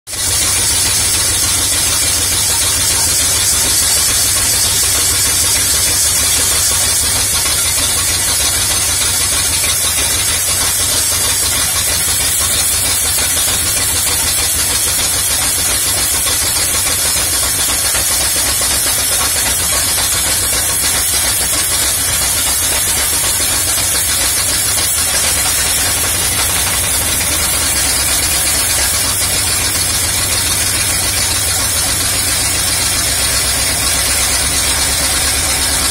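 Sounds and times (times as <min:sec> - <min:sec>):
engine idling: 0:00.1 - 0:35.9.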